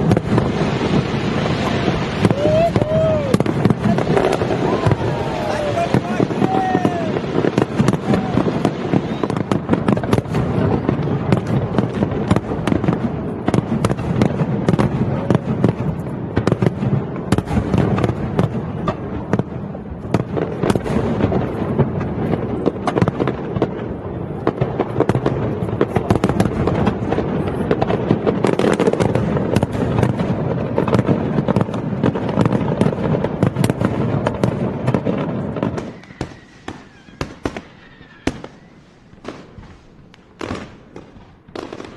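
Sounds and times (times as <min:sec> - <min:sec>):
fireworks barrage: 0:00.0 - 0:41.9.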